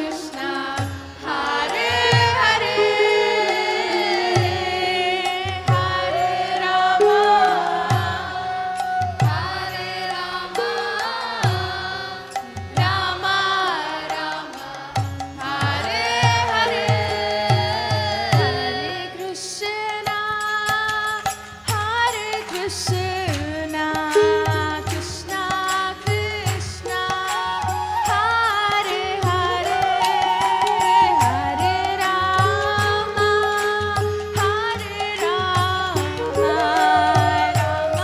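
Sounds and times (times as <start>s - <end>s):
sustained harmonium: 0.0s - 38.0s
voices singing devotional chant: 0.0s - 38.0s.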